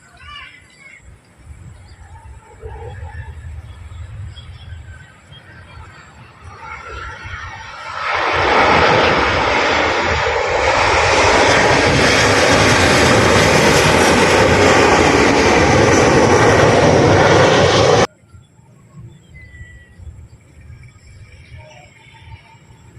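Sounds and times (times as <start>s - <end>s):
airliner engines passing close: 0.0s - 22.9s.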